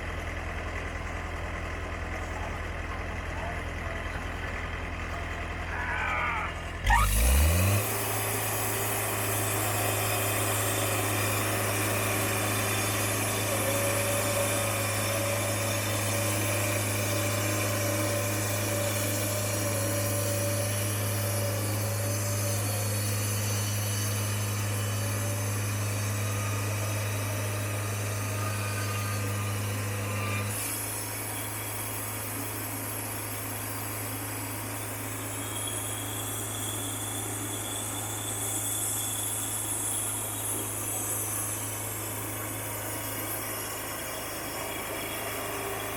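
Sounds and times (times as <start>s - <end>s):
sawmill engine revving: 4.0s - 45.9s
saw cutting lumber: 6.8s - 45.9s.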